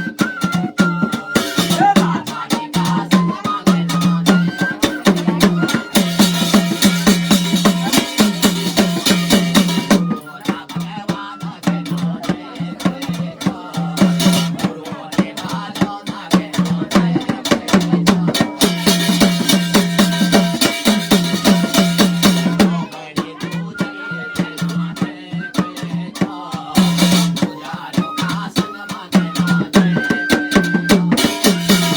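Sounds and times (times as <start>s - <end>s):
fast drum strokes: 0.0s - 31.9s.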